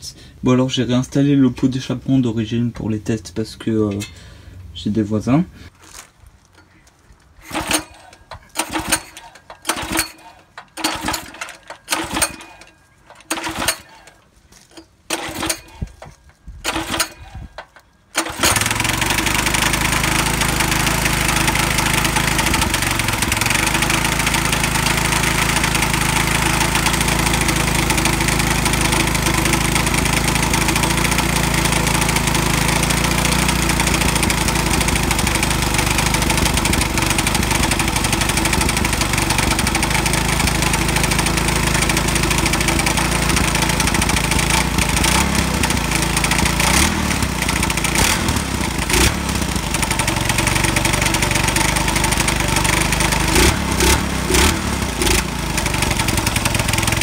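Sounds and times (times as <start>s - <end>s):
kart engine cranking and running: 7.4s - 57.0s.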